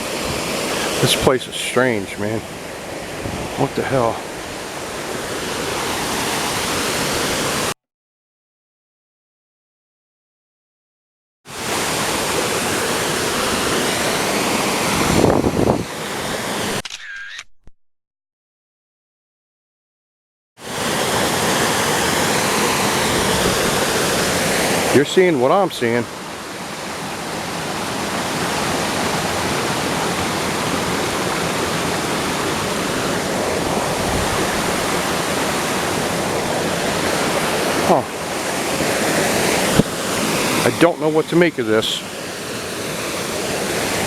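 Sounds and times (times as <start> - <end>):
water flowing in a stream: 0.0 - 7.8, 11.5 - 16.8, 20.6 - 44.0.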